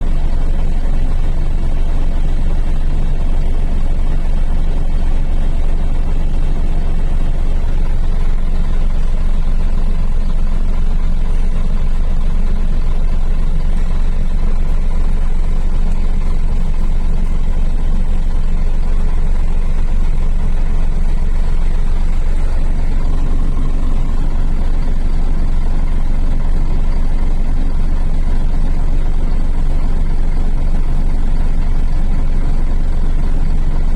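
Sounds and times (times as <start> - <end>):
truck diesel engine droning: 0.0 - 33.9.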